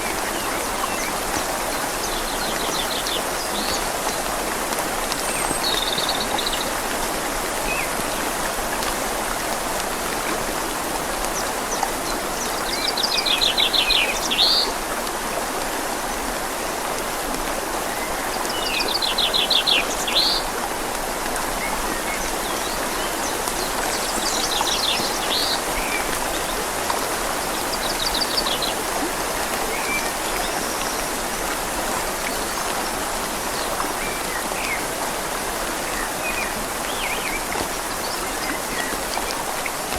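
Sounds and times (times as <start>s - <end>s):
light rain: 0.0s - 39.9s
river flowing: 0.0s - 39.9s.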